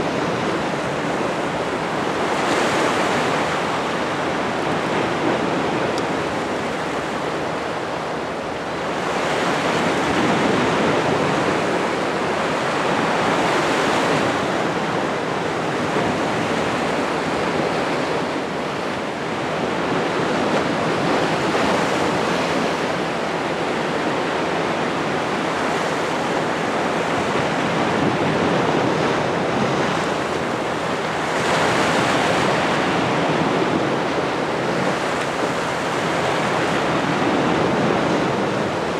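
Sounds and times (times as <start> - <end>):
sea surf washing on shore: 0.0 - 38.9.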